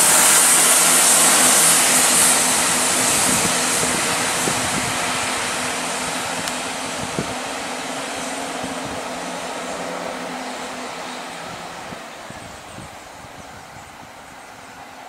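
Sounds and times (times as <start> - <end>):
diesel train engine drone: 0.0 - 15.0
wheel-on-rail rumble: 0.0 - 15.0.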